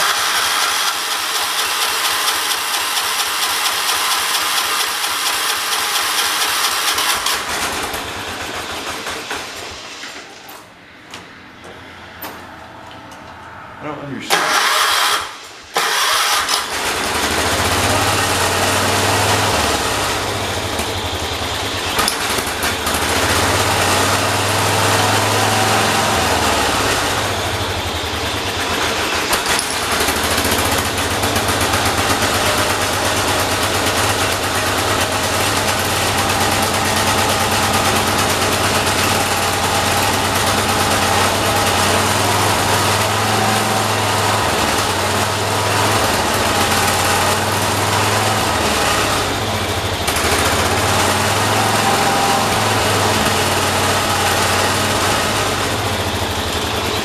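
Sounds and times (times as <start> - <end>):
small engine running: 0.0 - 9.8, 14.4 - 57.0.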